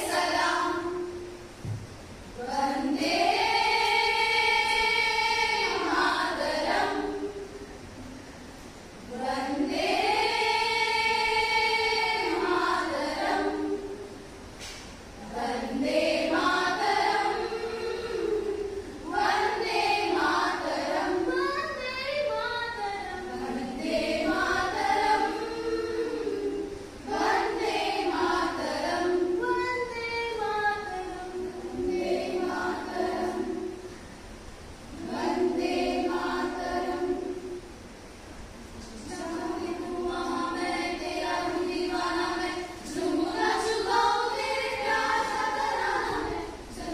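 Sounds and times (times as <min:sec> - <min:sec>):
women's choir singing: 0:00.0 - 0:01.5, 0:02.4 - 0:14.4, 0:15.2 - 0:34.1, 0:34.9 - 0:37.9, 0:38.8 - 0:46.9.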